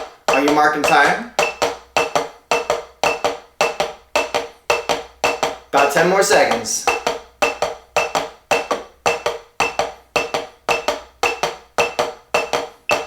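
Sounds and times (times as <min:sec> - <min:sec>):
drumsticks on practice pad: 0:00.0 - 0:13.0.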